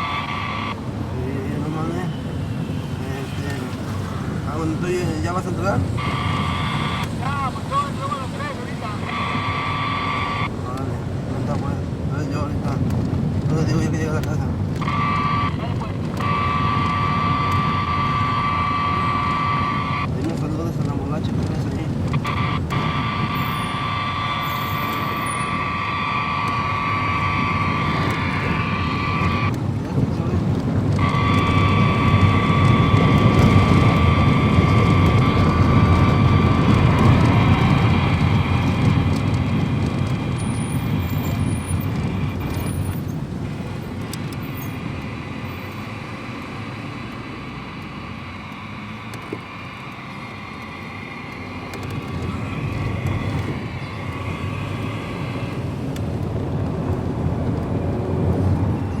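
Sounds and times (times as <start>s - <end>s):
steady whining tones: 0.0s - 59.0s
vehicle rumble from inside: 0.0s - 59.0s.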